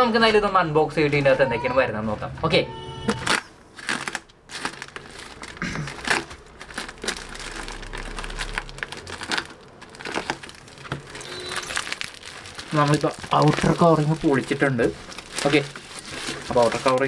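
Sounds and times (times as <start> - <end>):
plastic bag crinkling and ripping: 3.2 - 17.0.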